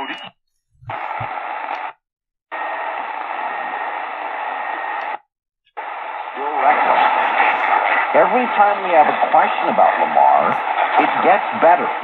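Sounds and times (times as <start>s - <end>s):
radio static hiss: 0.0s - 5.2s, 5.8s - 12.0s.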